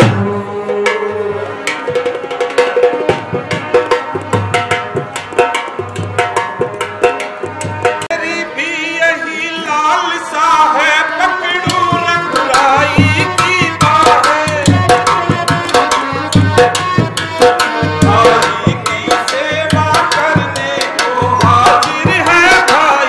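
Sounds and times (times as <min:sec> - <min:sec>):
hand drums playing: 0:00.0 - 0:08.3, 0:11.6 - 0:23.0.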